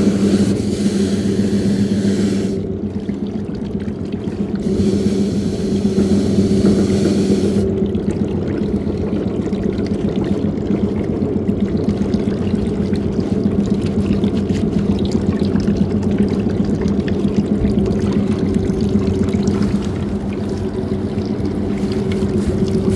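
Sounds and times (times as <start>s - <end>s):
washing machine motor hum: 0.0s - 22.9s
water churning in washing machine: 0.0s - 22.9s.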